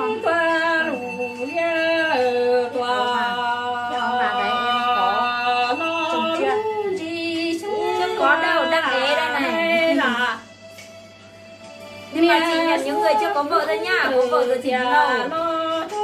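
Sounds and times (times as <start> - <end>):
woman singing: 0.0 - 10.5, 12.1 - 16.0.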